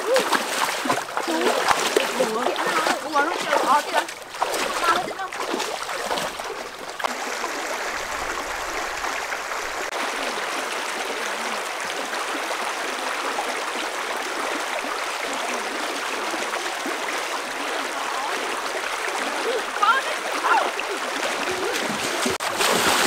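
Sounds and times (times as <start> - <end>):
river flowing over rocks: 0.0 - 23.0.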